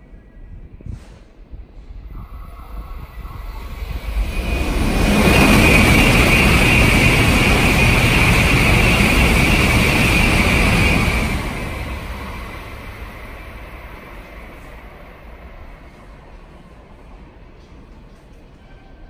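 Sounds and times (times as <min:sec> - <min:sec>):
bullet train passing at speed: 0:01.3 - 0:19.0.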